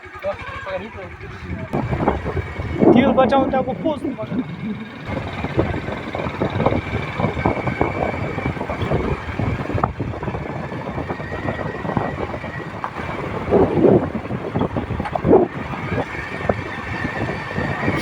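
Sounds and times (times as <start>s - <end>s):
motorcycle engine rumble: 0.0s - 18.0s
road noise: 0.0s - 18.0s
wind buffeting microphone: 0.0s - 18.0s.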